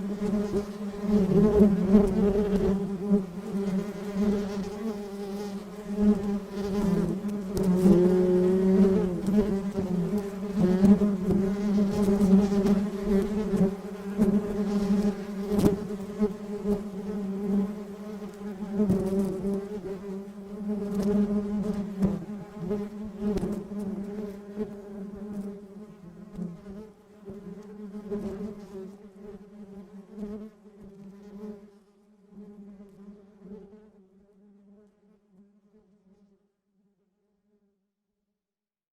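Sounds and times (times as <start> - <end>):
bee buzzing: 0.0 - 31.7.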